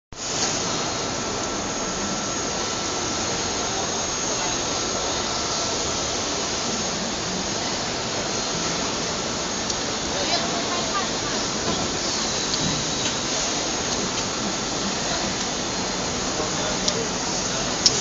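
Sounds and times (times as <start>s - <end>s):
high whine: 0.2s - 18.0s
injection molding machine running: 0.2s - 18.0s.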